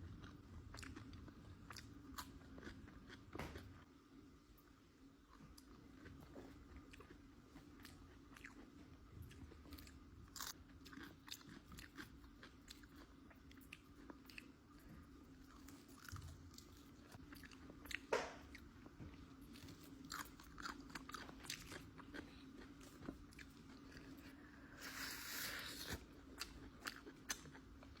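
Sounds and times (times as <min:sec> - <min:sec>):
chewing crispy chicken wings: 0:00.1 - 0:03.7, 0:05.3 - 0:28.0.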